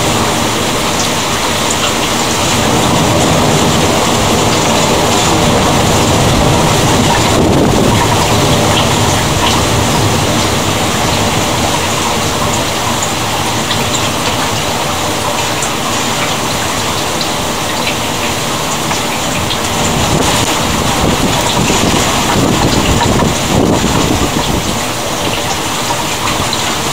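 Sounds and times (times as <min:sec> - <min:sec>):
steady rain pouring: 0:00.0 - 0:26.9.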